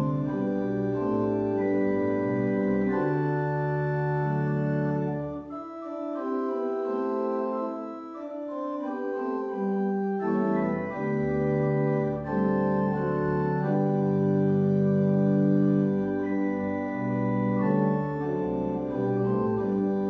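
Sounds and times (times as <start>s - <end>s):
organ playing slow chords: 0.0s - 20.0s.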